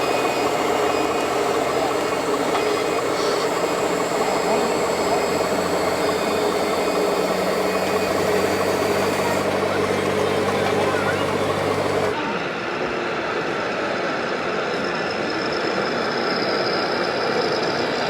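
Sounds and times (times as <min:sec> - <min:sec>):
busy exhibition hall noise: 0:00.0 - 0:16.2
model truck engines running: 0:00.0 - 0:18.0.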